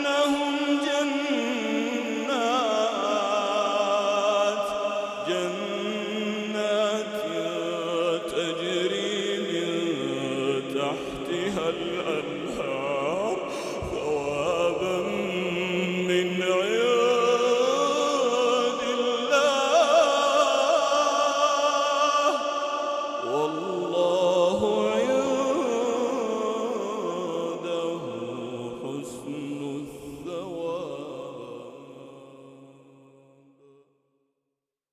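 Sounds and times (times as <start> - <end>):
man chanting recitation: 0.0 - 33.1.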